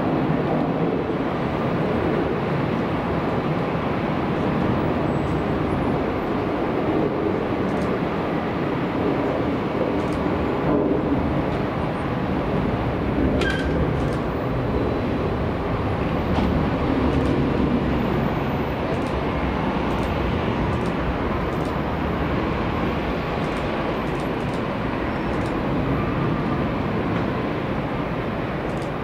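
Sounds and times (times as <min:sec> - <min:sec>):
jet engines running: 0:00.0 - 0:29.0.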